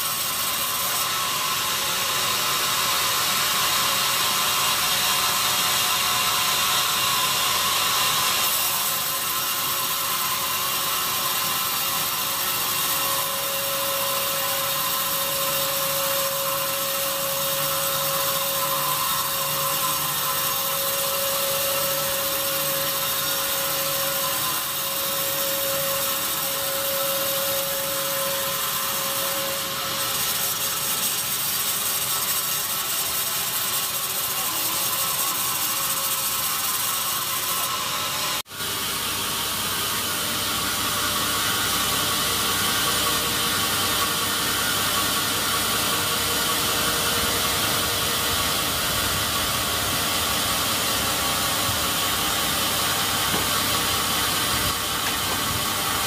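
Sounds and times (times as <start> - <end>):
band saw cutting log: 0.0 - 56.0
mill machinery running: 0.0 - 56.0.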